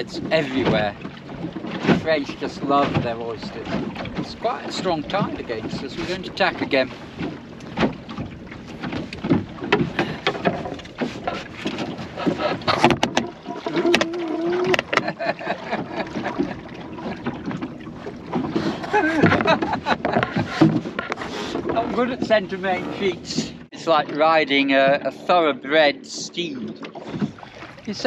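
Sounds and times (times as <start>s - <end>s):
sailing dinghy gear knocking and rattling: 0.0s - 28.0s.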